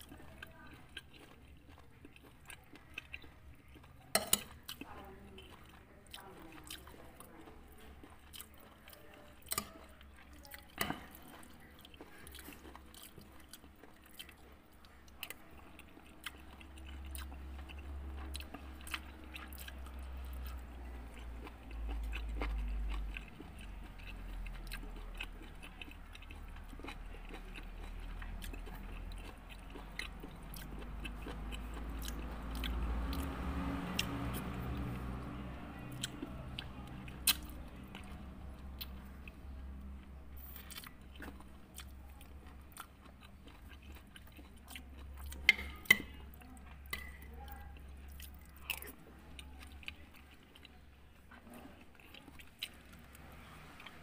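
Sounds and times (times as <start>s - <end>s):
person chewing meat: 0.0s - 54.0s.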